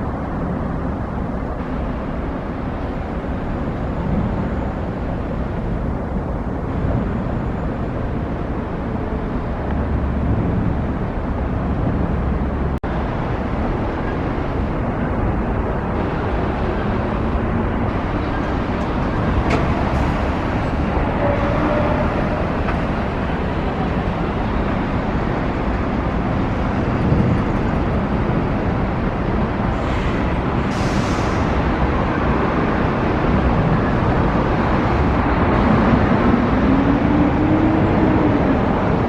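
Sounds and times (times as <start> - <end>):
road traffic noise: 0.0 - 39.0.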